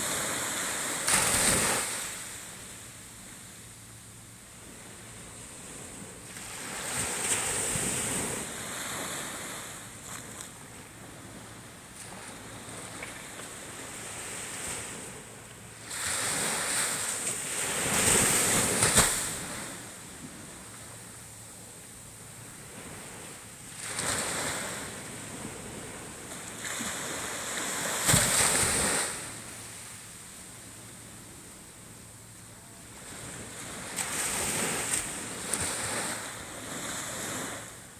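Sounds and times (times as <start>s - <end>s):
small waves lapping on sand: 0.0s - 3.6s, 4.4s - 37.9s.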